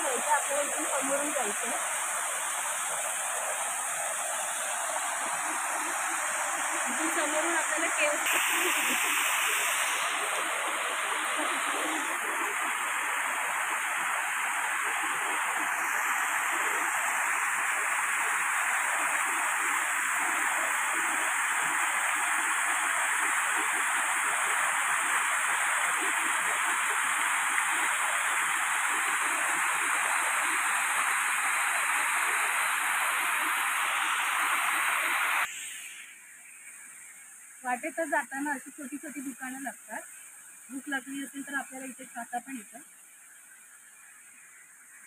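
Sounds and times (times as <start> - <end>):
stream rushing over rock: 0.0 - 37.1.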